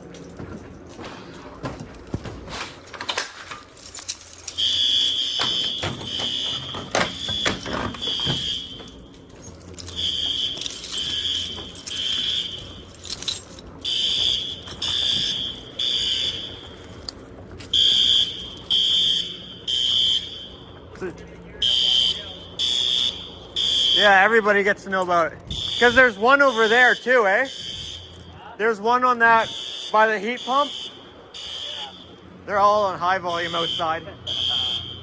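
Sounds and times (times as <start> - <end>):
fire alarm beeping: 0.0 - 35.0.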